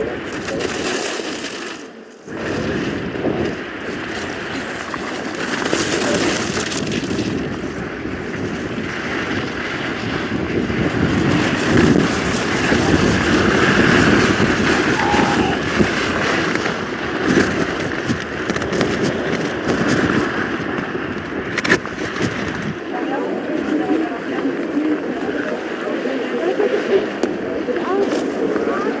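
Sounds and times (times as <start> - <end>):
skis rattling chatter: 0.0 - 29.0
skis scraping on snow: 0.0 - 29.0.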